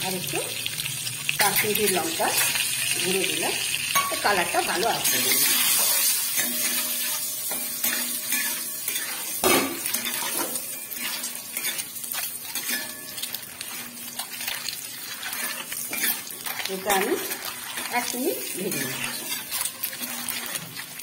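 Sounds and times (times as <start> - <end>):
eggs sizzling in oil: 0.0 - 21.0
metal spatula scraping pan: 4.0 - 21.0.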